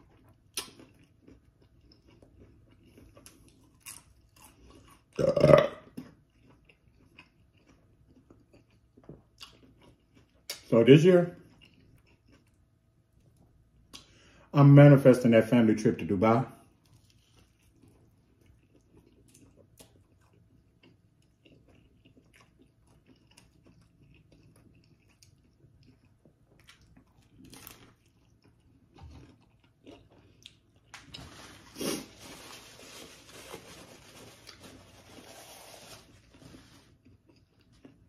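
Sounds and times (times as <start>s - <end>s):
close-miked crunchy chewing: 0.0s - 14.2s, 16.6s - 38.0s.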